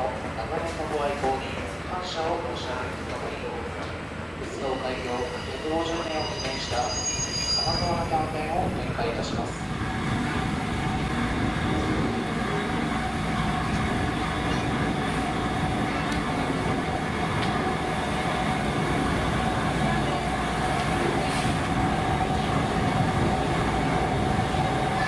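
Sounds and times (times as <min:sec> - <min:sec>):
train humming: 0:00.0 - 0:25.0.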